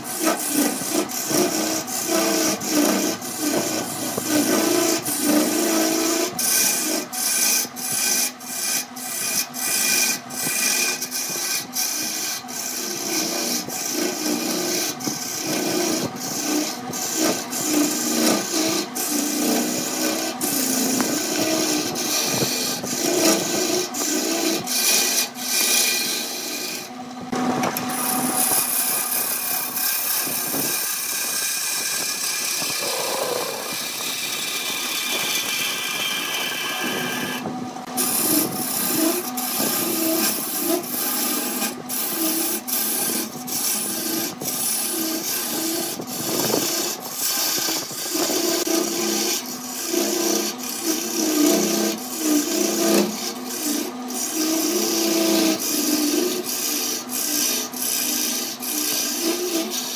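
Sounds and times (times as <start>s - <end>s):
lathe motor humming: 0.0s - 59.9s
lathe tool scraping turning wood: 0.0s - 59.9s.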